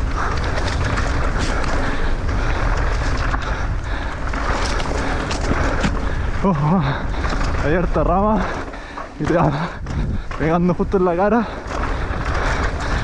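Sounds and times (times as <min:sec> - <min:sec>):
bike knocks and rattles: 0:00.0 - 0:13.0
tyres on loose dirt: 0:00.0 - 0:13.0
wind buffeting microphone: 0:00.0 - 0:13.0.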